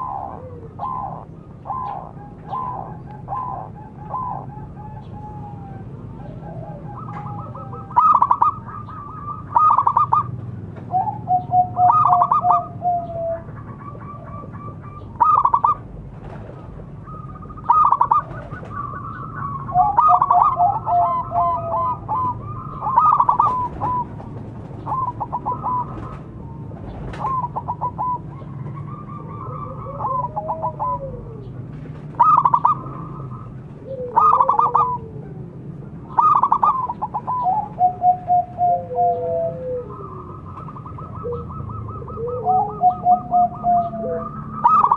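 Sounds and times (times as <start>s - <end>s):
dove rapid staccato cooing: 0.0s - 44.9s.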